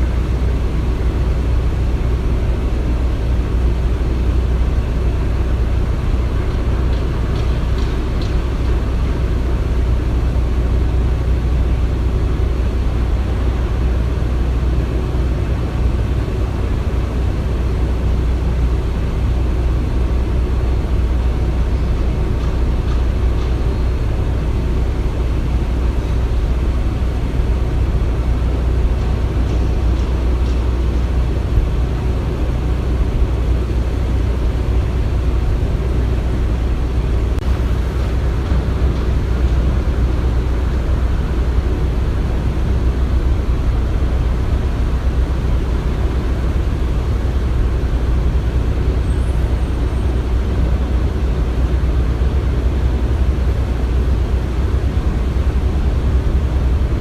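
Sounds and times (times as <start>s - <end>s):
heavy machinery engine rumble: 0.0s - 57.0s.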